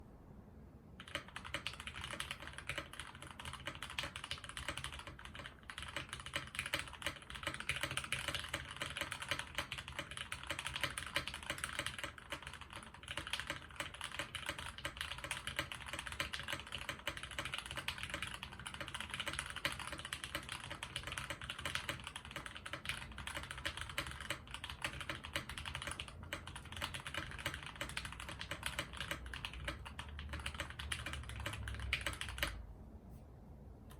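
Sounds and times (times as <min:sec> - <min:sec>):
mechanical keyboard typing: 0:01.0 - 0:32.6.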